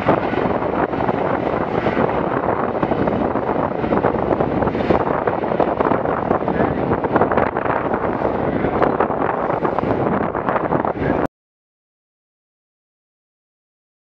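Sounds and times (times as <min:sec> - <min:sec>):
choppy waves and spray rushing: 0:00.0 - 0:11.3
wind buffeting microphone: 0:00.0 - 0:11.3.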